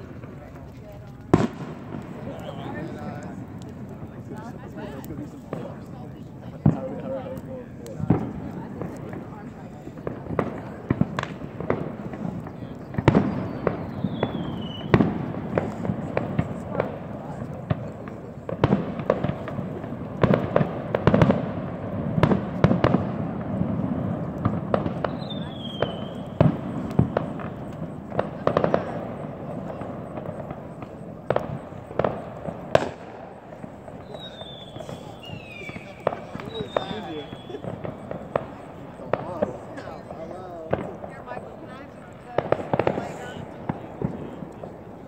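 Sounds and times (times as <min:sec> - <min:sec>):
burning tree crackling: 0:00.0 - 0:45.0
fireworks bangs: 0:00.0 - 0:45.0.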